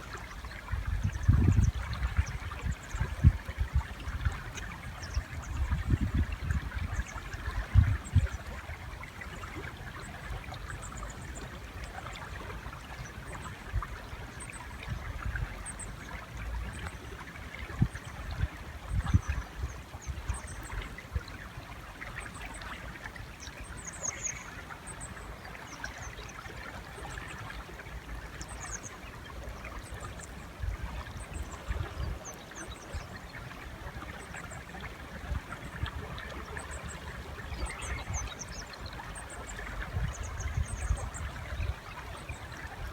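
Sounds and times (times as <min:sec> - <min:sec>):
river water flowing: 0:00.0 - 0:42.9.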